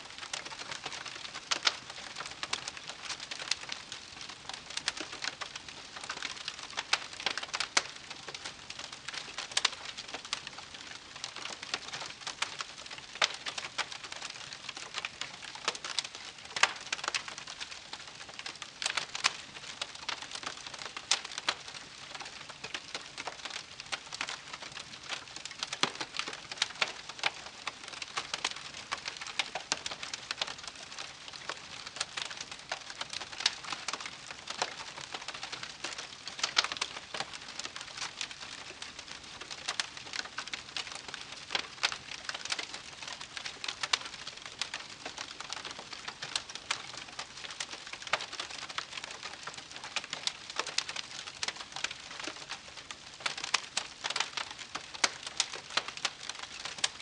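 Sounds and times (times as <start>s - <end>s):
campfire crackling: 0.1s - 57.0s.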